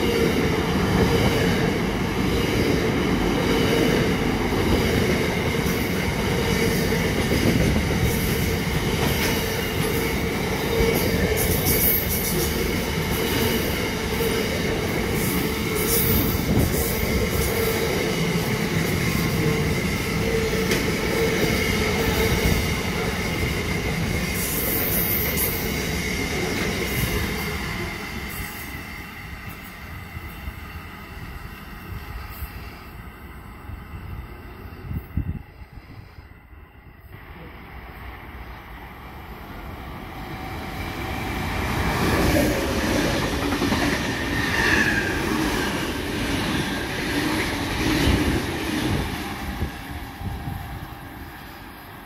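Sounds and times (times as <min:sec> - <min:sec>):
train wheels rumbling on rails: 0:00.0 - 0:36.4, 0:39.4 - 0:52.0.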